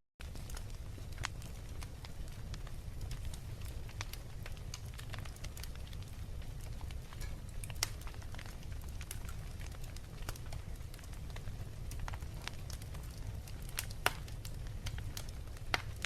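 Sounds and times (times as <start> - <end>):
fireplace fire crackling: 0.2 - 16.0
sharp pops from fire: 0.2 - 16.0.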